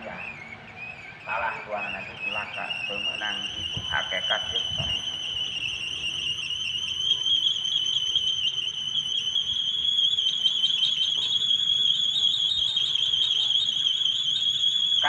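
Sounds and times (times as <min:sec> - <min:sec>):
wooden propeller whining in wind: 0:00.0 - 0:15.0.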